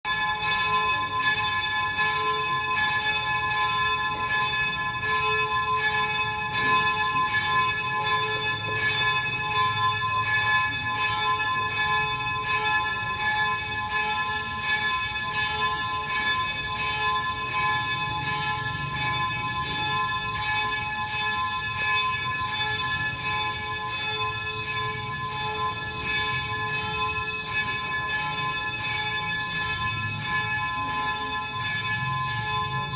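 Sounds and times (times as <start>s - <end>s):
church bells ringing: 0.0s - 32.9s.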